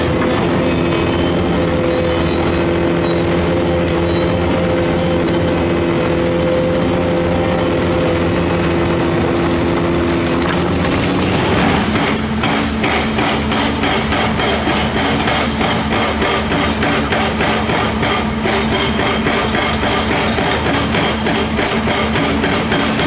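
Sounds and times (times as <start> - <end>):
heavy diesel machinery running: 0.0 - 23.0.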